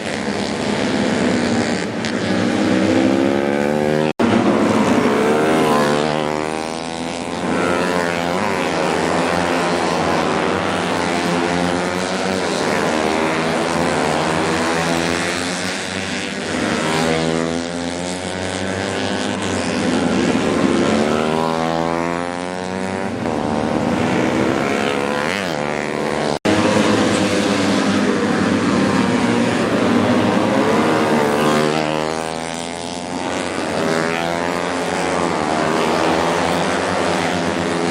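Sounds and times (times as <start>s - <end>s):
motorcycle engines revving: 0.0s - 37.9s.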